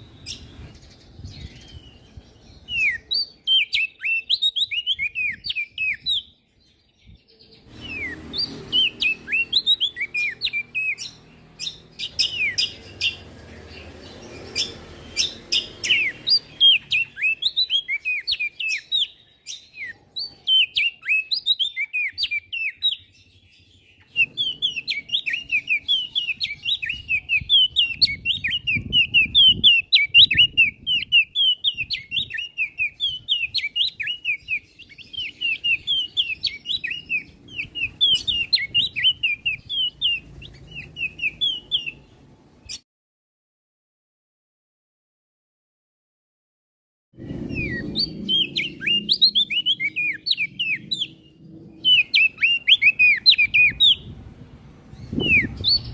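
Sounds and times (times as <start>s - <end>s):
bird singing high chirps: 0.0s - 42.8s, 47.2s - 55.9s.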